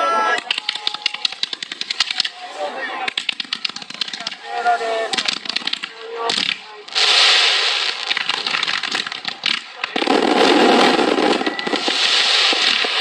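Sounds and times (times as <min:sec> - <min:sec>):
fireworks crackling: 0:00.2 - 0:13.0.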